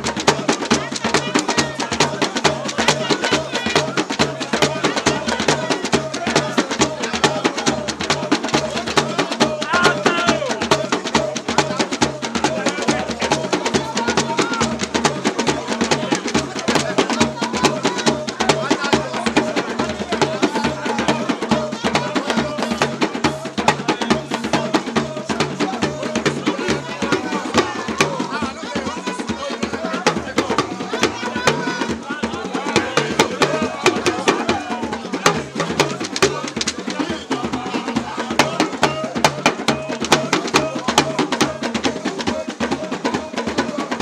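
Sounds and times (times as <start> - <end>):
fast hand percussion: 0.0 - 44.0
party music with drums: 0.0 - 44.0
talking drum: 0.0 - 44.0.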